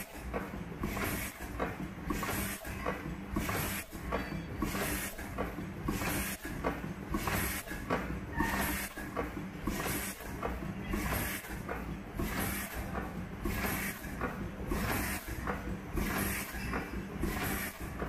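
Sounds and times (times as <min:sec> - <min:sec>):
machine clattering: 0:00.0 - 0:18.0.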